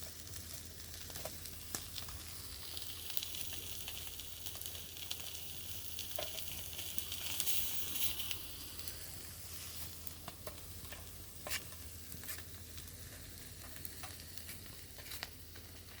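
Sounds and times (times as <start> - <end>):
fish sizzling: 0.0 - 16.0.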